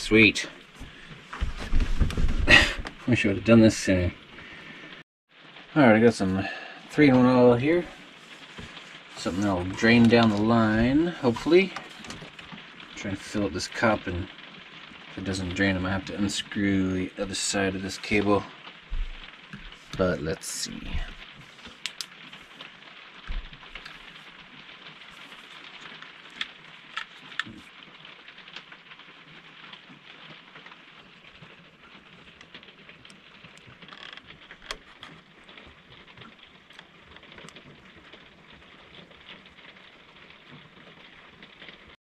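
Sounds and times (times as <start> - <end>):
rain hissing on roof: 0.0 - 42.0.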